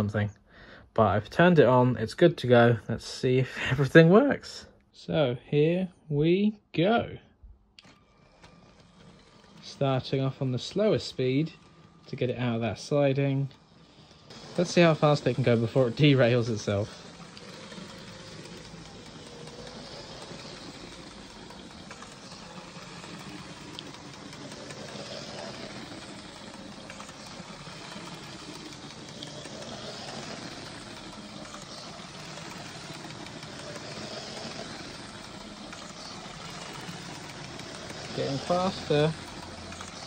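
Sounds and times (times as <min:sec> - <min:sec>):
toy train motor whirring: 0:07.8 - 0:40.0
toy wheels rolling on plastic track: 0:07.8 - 0:40.0.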